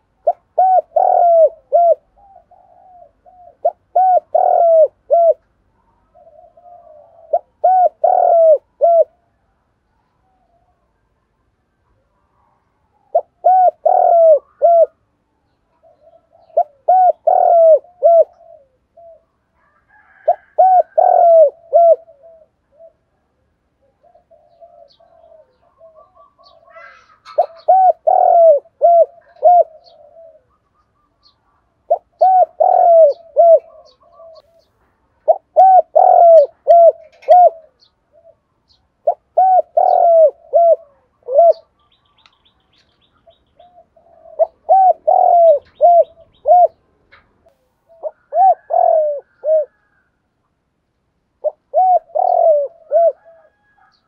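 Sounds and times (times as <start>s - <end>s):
dove cooing: 0.0s - 11.2s, 11.9s - 50.3s, 51.4s - 54.0s.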